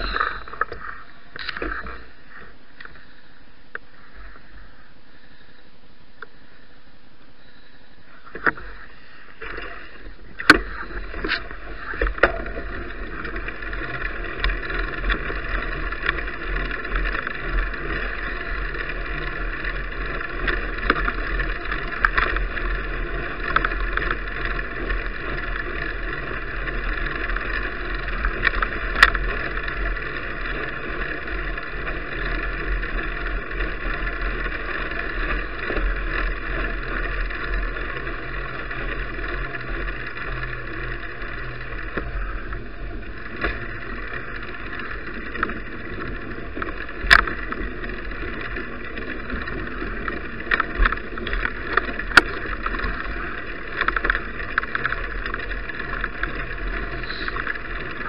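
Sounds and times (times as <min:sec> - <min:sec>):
bicycle tyres on road: 0:00.0 - 0:58.0.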